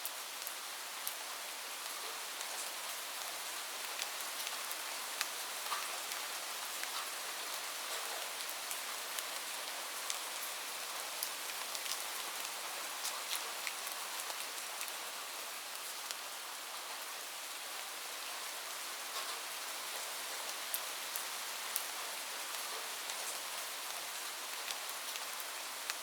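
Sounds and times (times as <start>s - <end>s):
raindrops ticking on a surface: 0.0s - 17.1s, 17.7s - 26.0s
light rain hiss: 0.0s - 26.0s.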